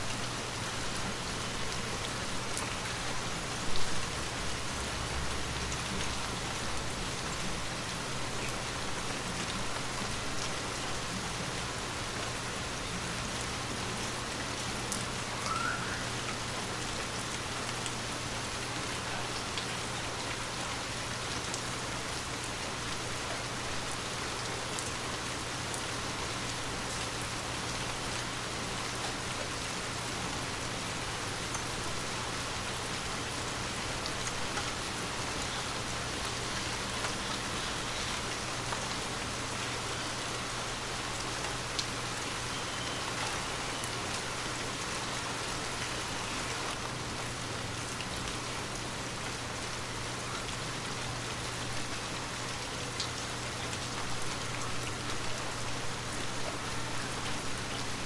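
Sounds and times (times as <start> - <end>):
rain on a window: 0.0 - 58.0.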